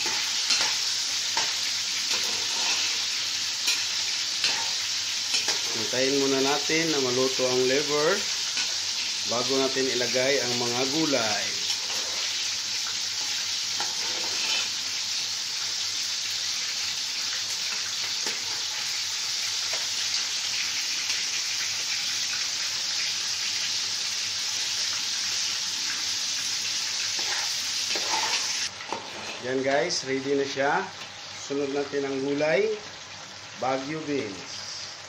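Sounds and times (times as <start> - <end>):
meat sizzling in oil: 0.0 - 35.0.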